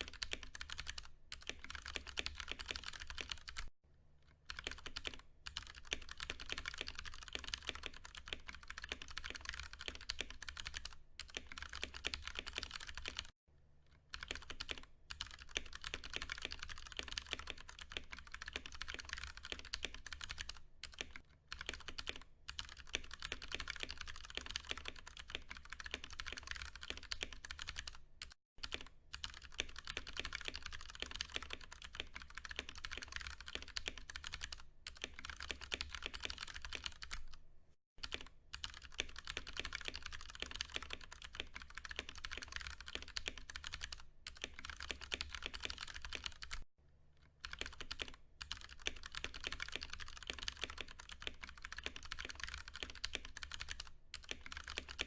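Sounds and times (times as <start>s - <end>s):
fast typing on mechanical keyboard: 0.0s - 3.7s, 4.5s - 13.4s, 14.1s - 37.4s, 38.0s - 46.7s, 47.4s - 55.0s.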